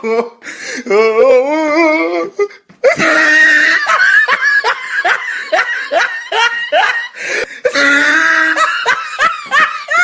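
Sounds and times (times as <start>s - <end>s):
person laughing: 0.0s - 10.0s.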